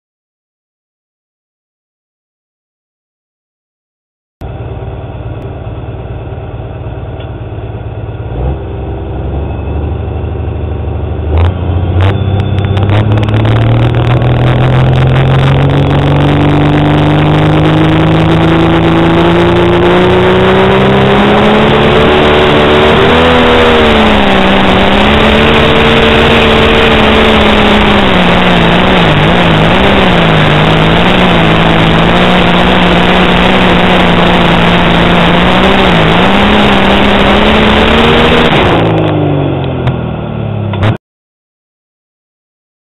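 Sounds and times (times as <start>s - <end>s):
tractor diesel engine revving: 4.4s - 39.9s.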